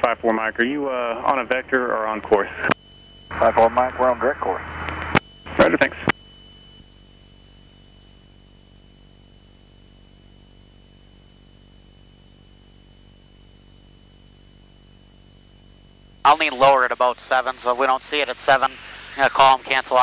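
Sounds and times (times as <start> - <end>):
radio hum and hiss: 0.0 - 20.0
high-pitched whine: 0.6 - 20.0.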